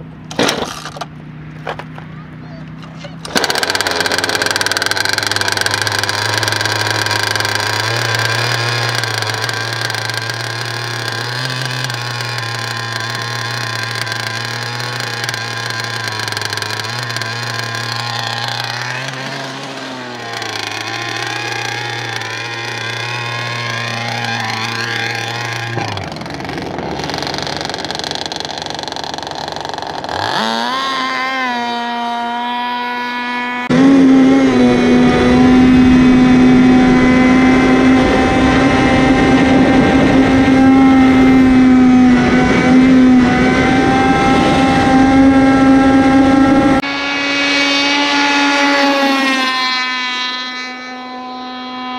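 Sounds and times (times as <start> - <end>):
model boat engine revving: 3.2 - 51.9.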